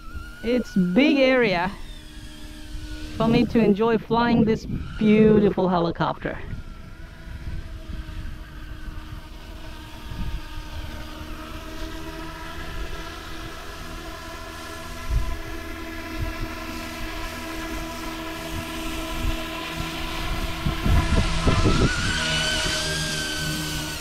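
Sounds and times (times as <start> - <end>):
rc helicopter motor whine: 0.0 - 24.0
wind buffeting microphone: 0.0 - 24.0.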